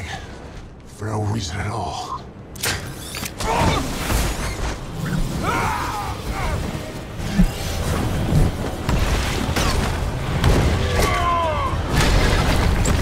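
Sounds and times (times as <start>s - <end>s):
film score music: 0.0s - 13.0s.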